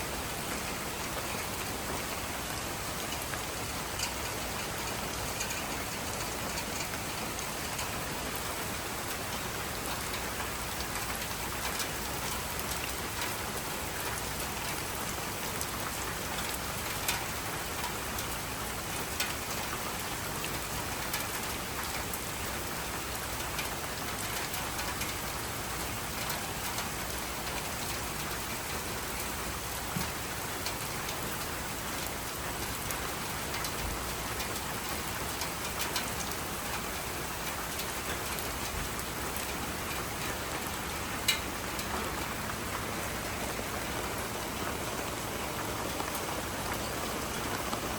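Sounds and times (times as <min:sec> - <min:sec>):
steady rain hiss: 0:00.0 - 0:47.9
raindrops tapping on surface: 0:00.1 - 0:47.9.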